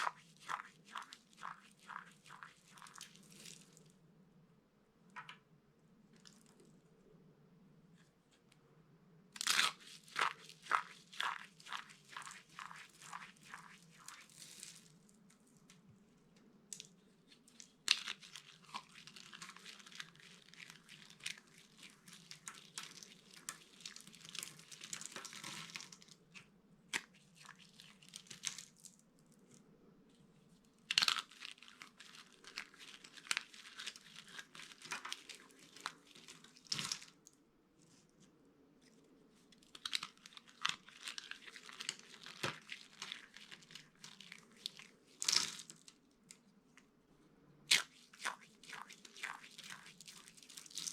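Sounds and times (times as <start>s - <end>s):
dry soap crunching and crackling: 0.0s - 4.1s, 6.0s - 6.8s, 9.4s - 46.9s, 47.6s - 50.9s.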